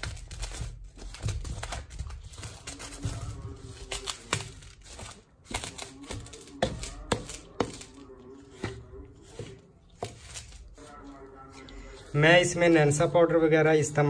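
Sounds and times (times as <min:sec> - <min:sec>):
gritty scraping of powder: 0:02.2 - 0:14.0.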